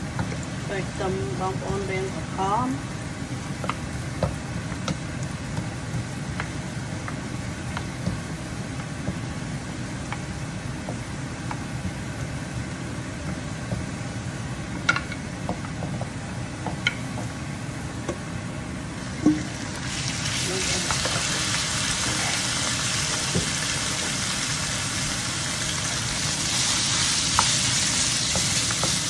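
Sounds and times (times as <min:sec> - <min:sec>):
aromatics frying: 0:00.0 - 0:29.0
steady low whir: 0:00.0 - 0:29.0.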